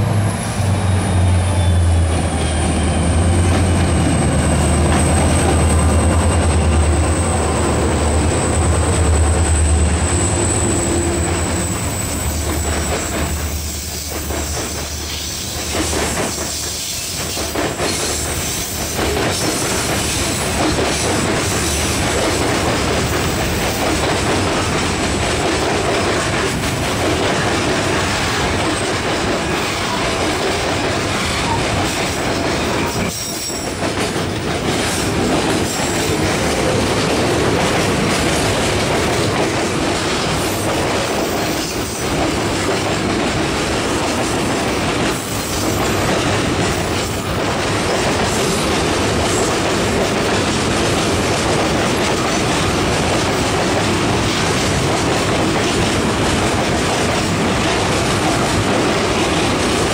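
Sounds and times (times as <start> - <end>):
diesel locomotive engines rumbling: 0.0 - 59.9
freight train wheels clattering on rails: 0.0 - 59.9.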